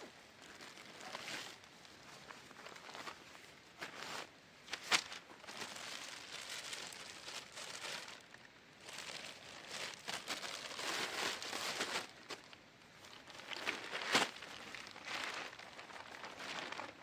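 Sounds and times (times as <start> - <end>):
footsteps through undergrowth: 0.4 - 17.0.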